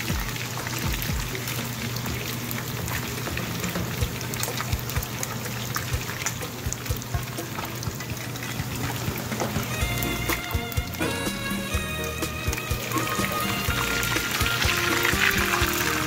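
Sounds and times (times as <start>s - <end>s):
fish sizzling in hot oil: 0.0s - 16.0s
oil popping: 0.0s - 16.0s.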